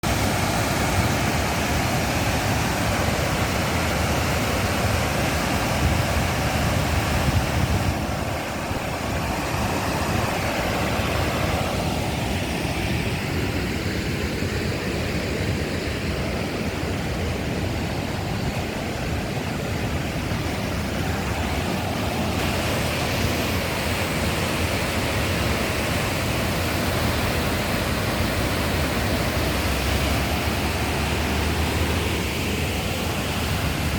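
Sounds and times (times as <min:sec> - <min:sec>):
heavy rain: 0:00.0 - 0:33.9
running floodwater: 0:00.0 - 0:33.9.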